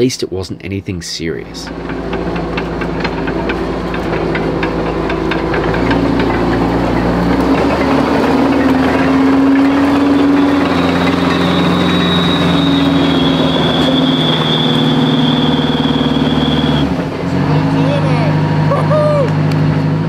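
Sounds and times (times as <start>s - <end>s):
diesel engine running under load: 1.4s - 20.0s
high whine: 1.4s - 20.0s.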